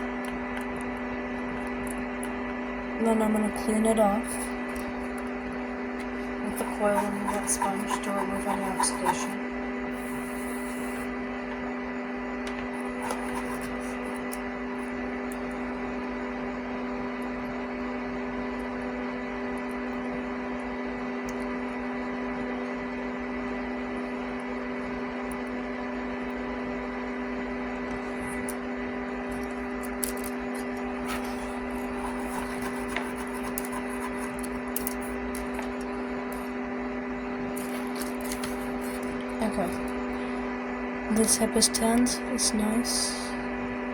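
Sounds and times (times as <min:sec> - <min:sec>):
steady electrical hum: 0:00.0 - 0:43.9.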